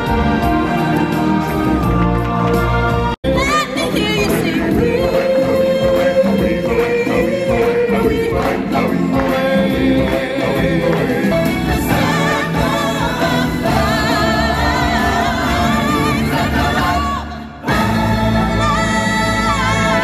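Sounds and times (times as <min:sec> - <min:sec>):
choir singing: 0:00.0 - 0:03.2, 0:04.2 - 0:20.0
live band with drums: 0:00.0 - 0:17.0.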